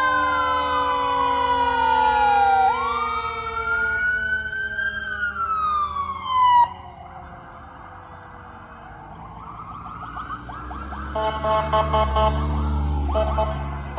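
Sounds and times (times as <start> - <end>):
emergency vehicle siren wailing: 0.0 - 13.9.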